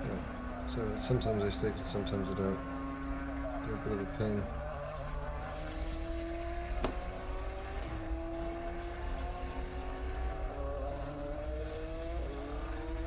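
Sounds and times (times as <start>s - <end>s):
race car engine shifting gears: 0.0s - 13.0s.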